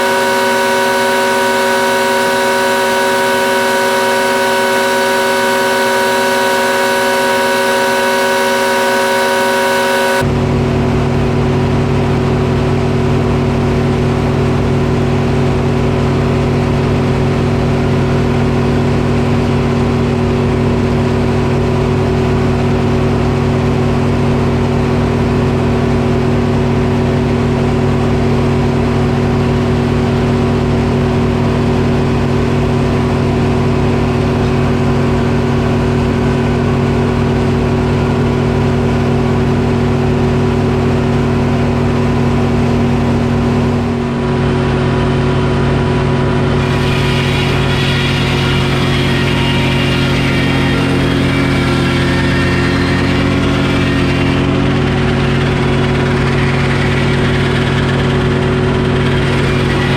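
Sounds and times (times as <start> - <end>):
steady high whining tones: 0.0 - 10.3, 13.5 - 59.9
deep diesel engine drone: 0.0 - 59.9.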